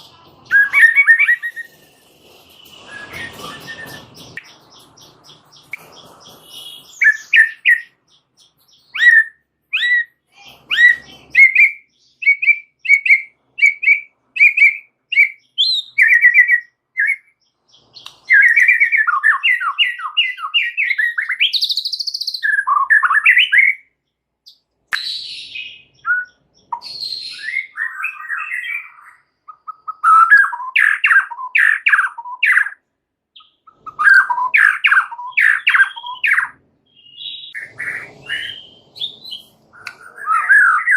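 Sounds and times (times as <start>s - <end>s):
bird singing whistled notes: 0.0s - 23.9s, 24.5s - 32.8s, 33.4s - 40.9s.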